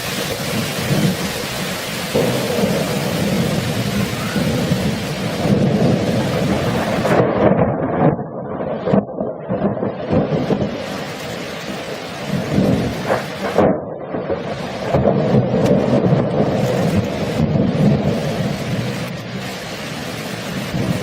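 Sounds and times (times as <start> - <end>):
rolling thunder: 0.0 - 21.0
sharp thunder crackles: 0.0 - 21.0
steady rain: 0.0 - 21.0.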